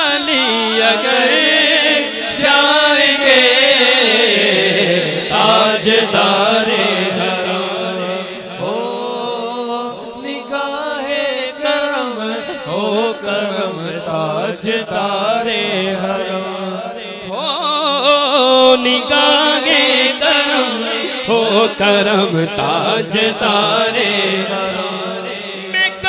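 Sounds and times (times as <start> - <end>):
man singing: 0.0 - 26.0.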